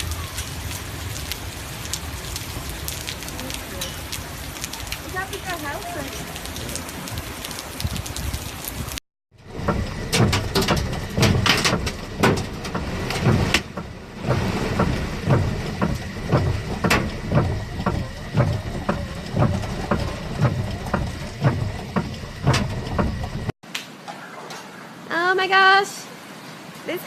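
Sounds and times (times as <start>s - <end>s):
hiss of falling rain: 0.0s - 24.1s.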